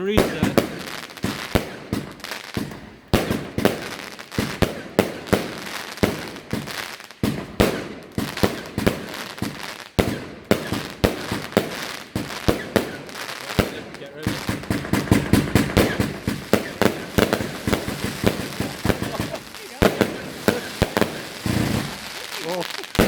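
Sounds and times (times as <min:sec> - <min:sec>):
firework cake bangs: 0:00.0 - 0:23.0.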